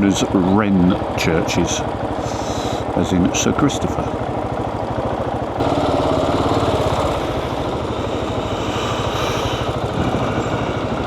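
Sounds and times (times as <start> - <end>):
motorcycle engine riding: 0.0 - 11.0.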